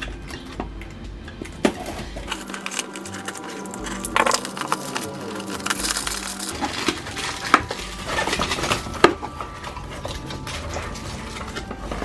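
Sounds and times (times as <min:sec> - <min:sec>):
plastic shrink wrap crinkling: 0:01.6 - 0:12.0
cardboard rustling: 0:01.7 - 0:12.0.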